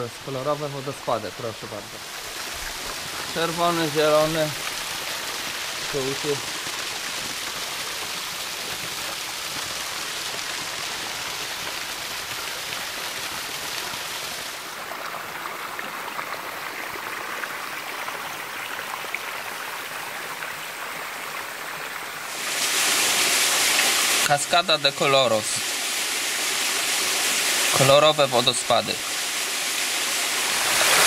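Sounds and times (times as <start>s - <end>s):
small waterfall splashing: 0.0s - 31.0s
stream rippling over rocks: 0.0s - 31.0s.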